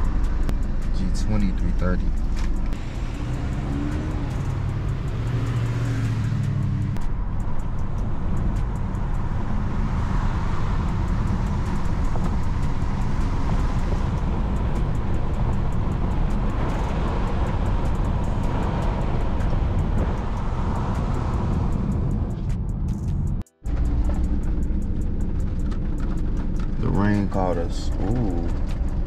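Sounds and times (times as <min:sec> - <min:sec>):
car engine running: 0:00.0 - 0:29.0
road and tyre noise: 0:00.0 - 0:29.0.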